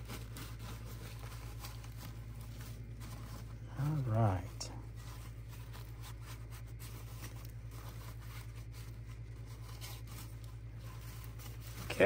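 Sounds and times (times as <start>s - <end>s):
paper towel crinkling: 0.0s - 12.0s
steady low hum: 0.0s - 12.0s.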